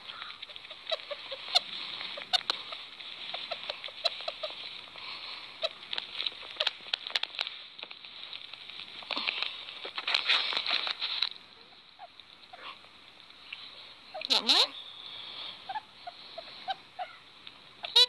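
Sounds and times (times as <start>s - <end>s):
small animals ticking and chirping: 0.0s - 18.0s.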